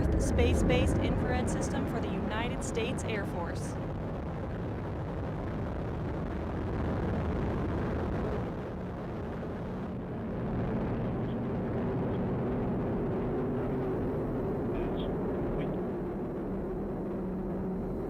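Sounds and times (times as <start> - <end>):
rocket engine roar: 0.0 - 18.0.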